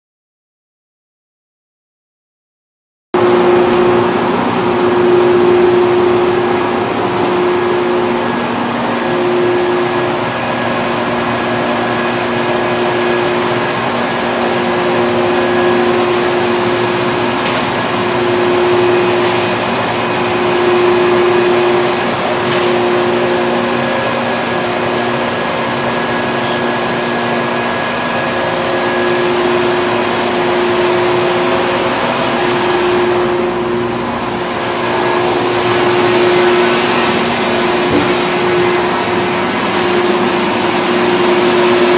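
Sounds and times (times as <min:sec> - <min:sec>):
milling machinery hum: 0:03.2 - 0:41.9.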